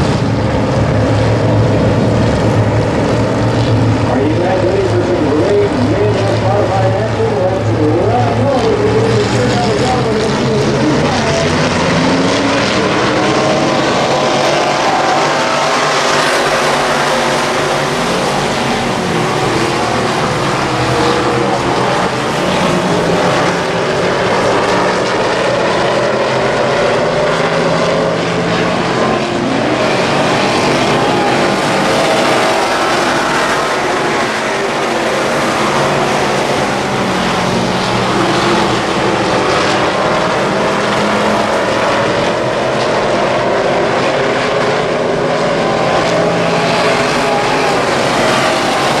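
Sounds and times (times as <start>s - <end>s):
race car engine revving: 0.0s - 49.0s.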